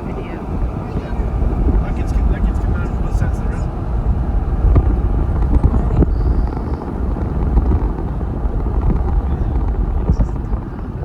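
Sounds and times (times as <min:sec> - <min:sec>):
car road rumble from inside: 0:00.0 - 0:11.0
low buffeting: 0:00.0 - 0:11.0.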